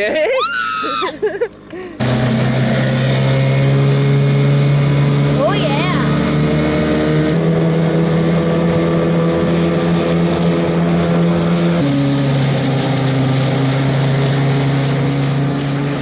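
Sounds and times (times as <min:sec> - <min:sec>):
outboard motor running: 0:00.0 - 0:16.0
water rushing along hull: 0:00.0 - 0:16.0.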